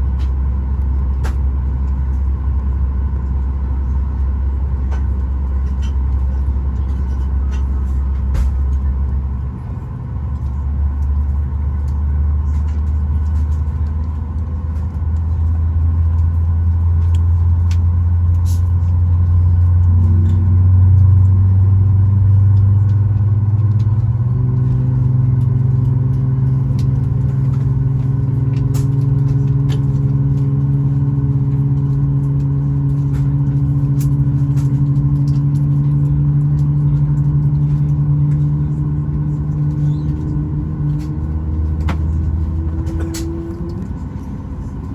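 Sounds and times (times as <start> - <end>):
aircraft cabin engine hum: 0.0 - 44.9.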